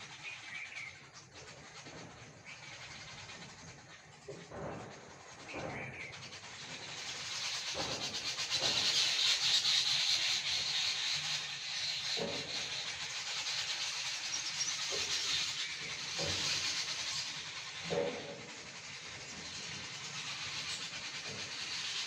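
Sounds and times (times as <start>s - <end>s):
flock of small birds chirping: 0.0s - 22.0s.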